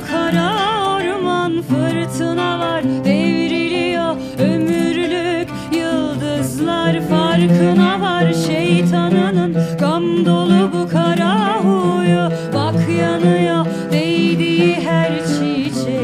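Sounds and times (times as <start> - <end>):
slow wordless song with vibrato: 0.0 - 16.0.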